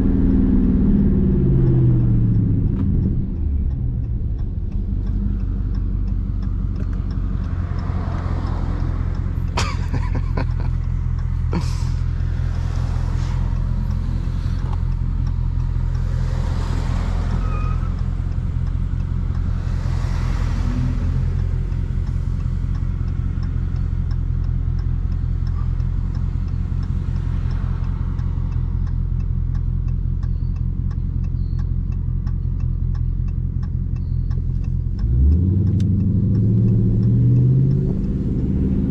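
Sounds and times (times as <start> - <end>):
car engine deep rumble: 0.0 - 38.9
sharp clicks: 1.6 - 20.6, 21.3 - 38.3.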